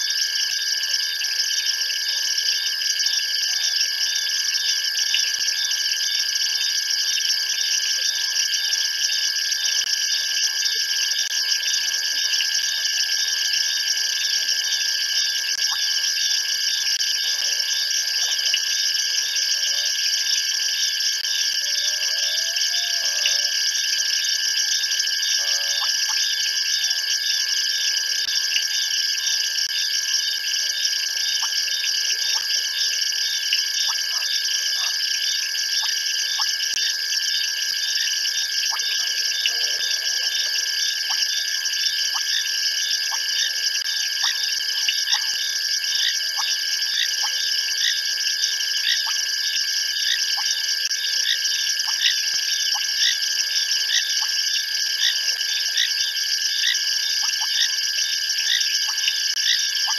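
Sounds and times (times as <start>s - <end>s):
insects and frogs trilling: 0.0s - 59.9s.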